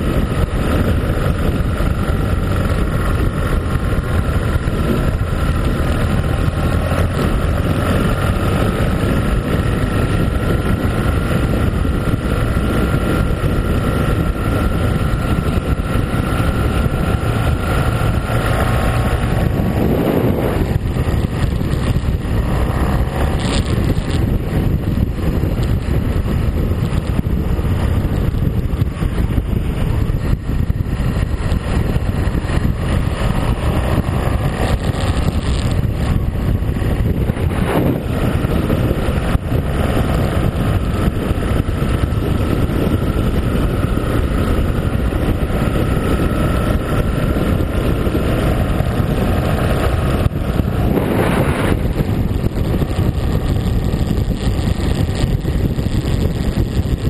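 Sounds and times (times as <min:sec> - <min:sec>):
motorcycle engine: 0:00.0 - 0:57.0
wind buffeting microphone: 0:00.0 - 0:57.0.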